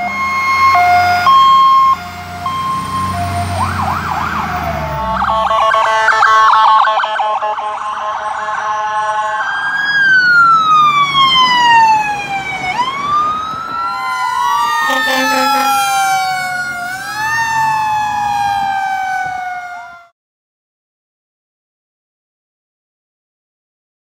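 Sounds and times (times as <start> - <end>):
emergency sirens wailing: 0.0 - 20.2.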